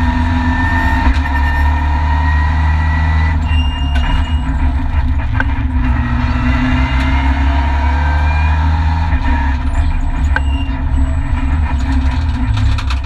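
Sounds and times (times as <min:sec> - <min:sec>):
rally car engine running: 0:00.0 - 0:13.0.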